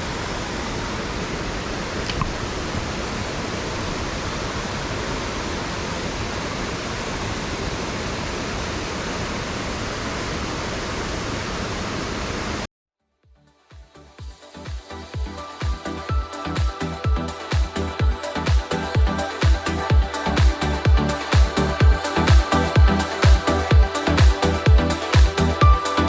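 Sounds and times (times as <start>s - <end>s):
mountain stream rushing: 0.0s - 12.7s, 14.5s - 26.0s.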